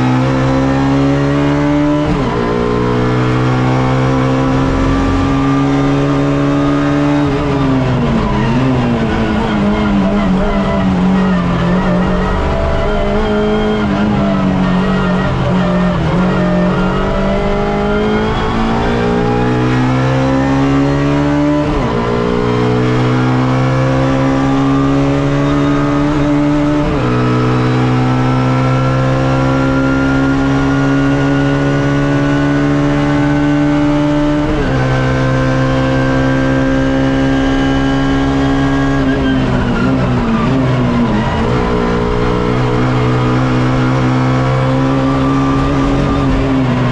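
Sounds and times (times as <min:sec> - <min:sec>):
race car engine accelerating: 0:00.0 - 0:46.9.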